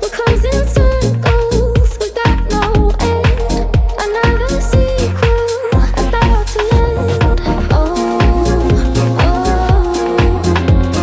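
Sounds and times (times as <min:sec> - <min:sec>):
upbeat pop music with dance beat: 0:00.0 - 0:11.0.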